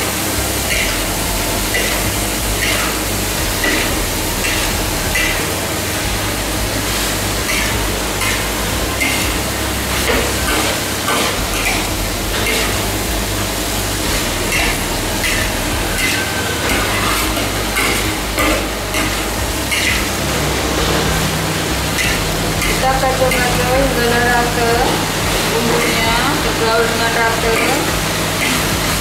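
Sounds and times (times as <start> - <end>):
vegetables sizzling in a wok: 0.0 - 29.0
metal spatula scraping a wok: 0.2 - 12.8, 13.5 - 29.0.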